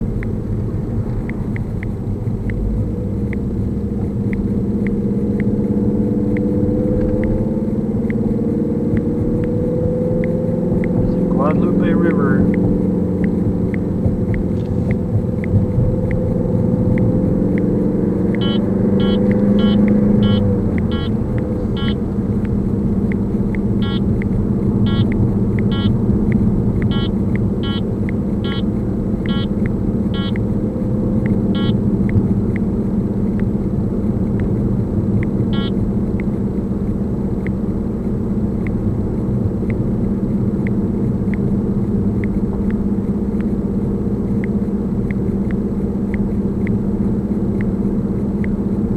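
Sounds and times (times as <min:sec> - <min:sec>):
car engine running: 0:00.0 - 0:48.9
road rumble: 0:00.0 - 0:48.9.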